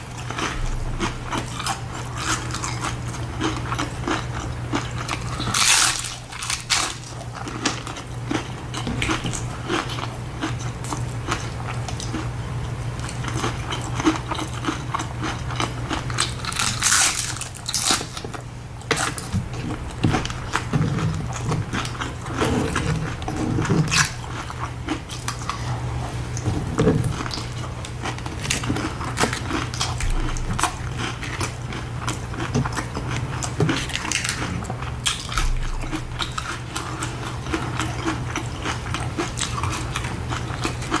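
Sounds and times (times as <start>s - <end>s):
chewing and biting food: 0.0s - 41.0s.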